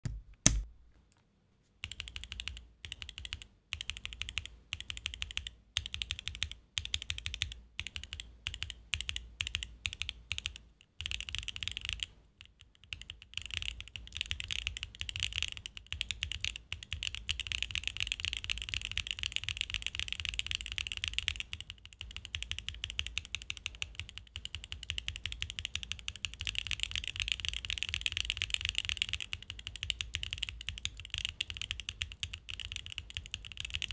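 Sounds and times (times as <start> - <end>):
mechanical keyboard typing: 1.8 - 33.9.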